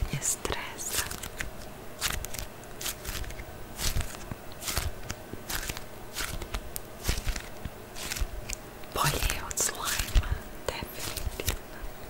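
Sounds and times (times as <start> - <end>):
crackling crunching noises: 0.5 - 12.0.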